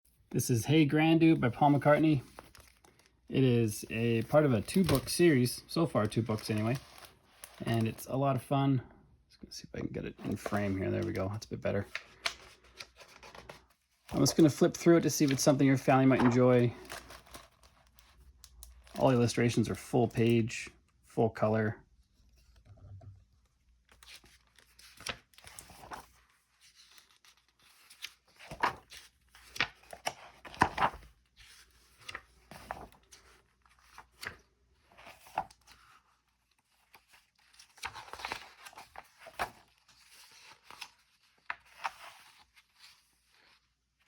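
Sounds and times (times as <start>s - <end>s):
book pages turning: 1.4s - 8.1s, 10.1s - 19.3s, 23.4s - 44.0s.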